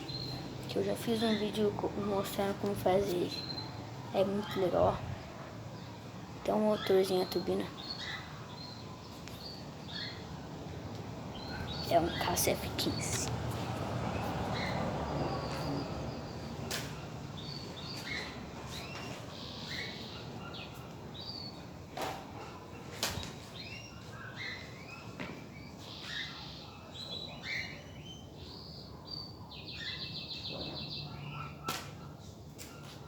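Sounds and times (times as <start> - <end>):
birds chirping and calling: 0.0 - 33.0.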